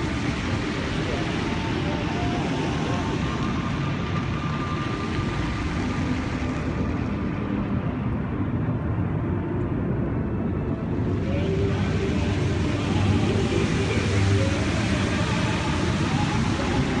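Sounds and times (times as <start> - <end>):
fountain water jets hissing: 0.0 - 8.7, 10.9 - 17.0.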